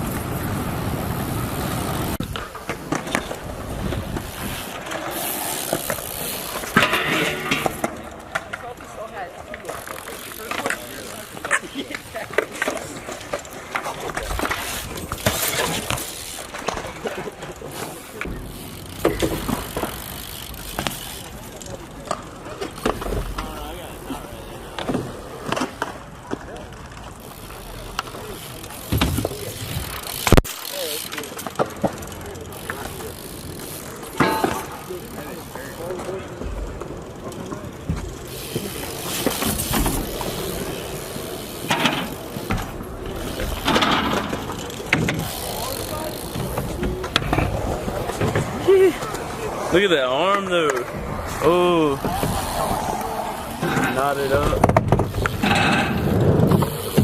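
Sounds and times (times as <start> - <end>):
bike tyres and frame rushing: 0.0 - 57.0.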